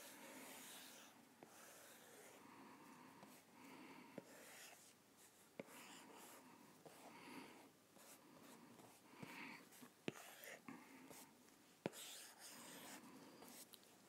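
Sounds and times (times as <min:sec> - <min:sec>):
stylus drawing on screen: 0:00.0 - 0:13.8.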